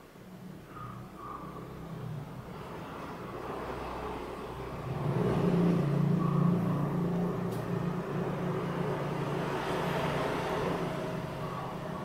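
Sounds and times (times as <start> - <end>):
vehicle engine running: 1.2 - 12.0.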